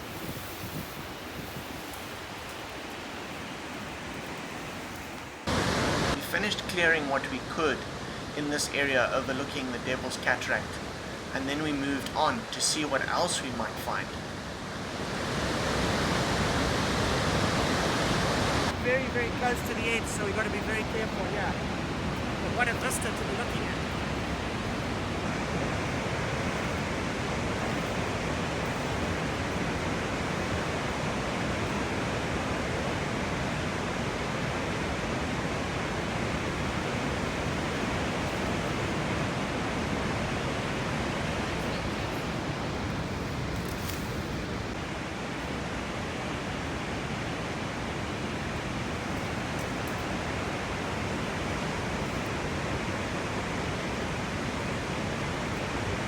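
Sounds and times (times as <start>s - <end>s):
waterfall roaring: 3.0s - 56.0s.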